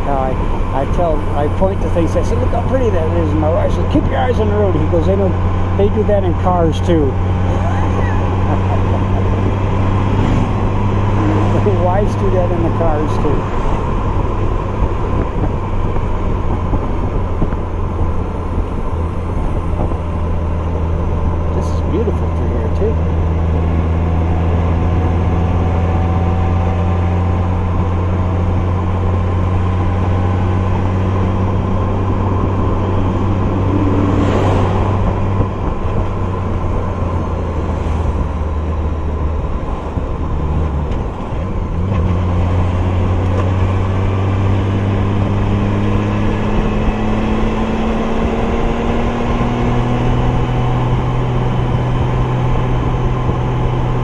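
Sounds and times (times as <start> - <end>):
wind and road rush: 0.0 - 54.0.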